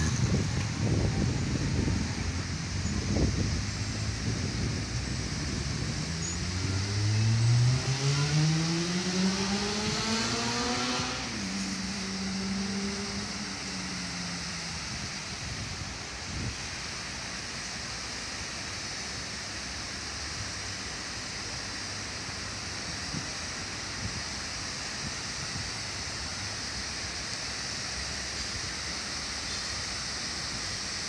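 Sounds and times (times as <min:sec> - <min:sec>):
lawn sprinklers spraying: 0:00.0 - 0:07.0, 0:11.3 - 0:31.0
fountain water falling: 0:00.0 - 0:07.9, 0:11.2 - 0:31.0.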